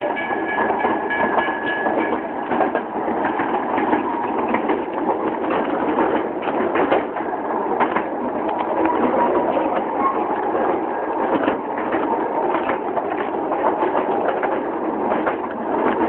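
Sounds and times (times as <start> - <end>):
train rumbling along rails: 0.0 - 16.0
train wheels clicking and knocking: 0.0 - 16.0.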